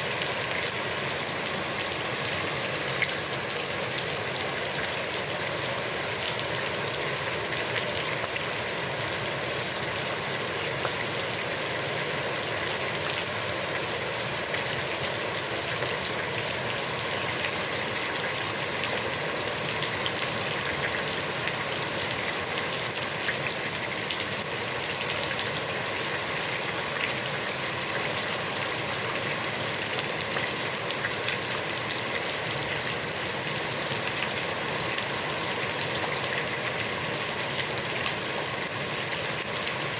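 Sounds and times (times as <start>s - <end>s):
heavy rain falling on water: 0.0s - 39.9s.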